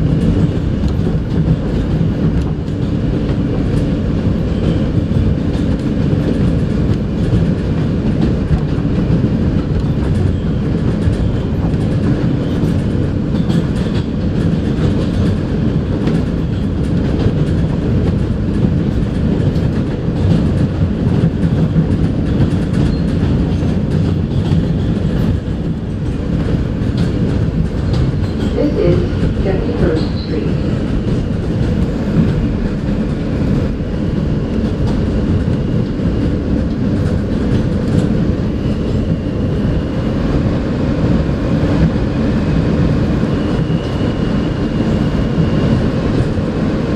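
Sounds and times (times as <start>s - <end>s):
clickety-clack of rail joints: 0.0s - 46.9s
train wheels rumbling on rail: 0.0s - 46.9s.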